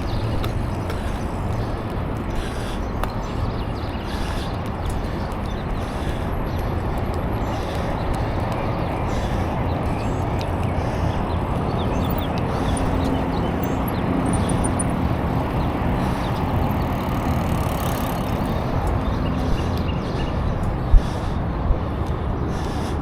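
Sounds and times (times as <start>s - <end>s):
bicycle tyre noise on pavement: 0.0s - 23.0s
wind rush on microphone: 0.0s - 23.0s.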